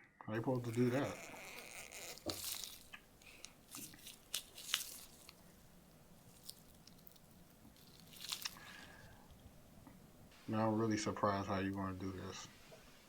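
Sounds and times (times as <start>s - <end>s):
crunching and crinkling: 0.4s - 13.0s.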